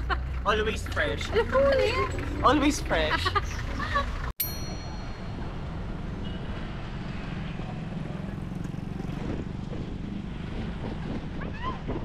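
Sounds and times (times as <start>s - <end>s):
motorcycles and cars passing: 0.0s - 12.0s.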